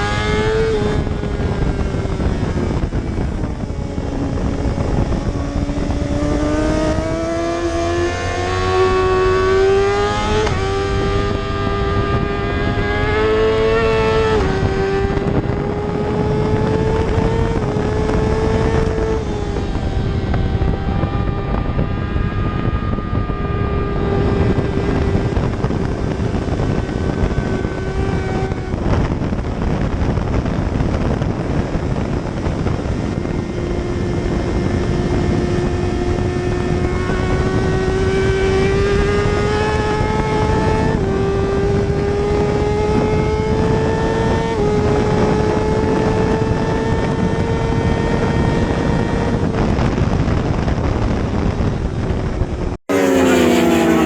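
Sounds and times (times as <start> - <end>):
motorcycle engine revving: 0.0 - 54.0
wind rushing: 0.0 - 54.0.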